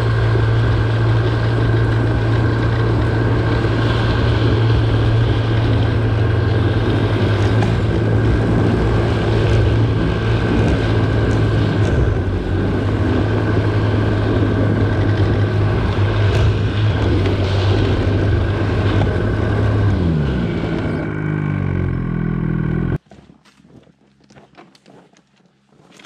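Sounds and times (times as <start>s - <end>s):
vehicle engine running under load: 0.0s - 23.0s.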